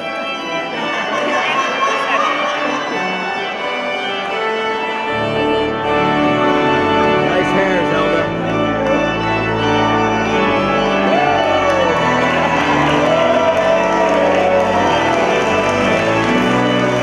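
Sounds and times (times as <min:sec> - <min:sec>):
church organ playing chords: 0:00.0 - 0:17.0.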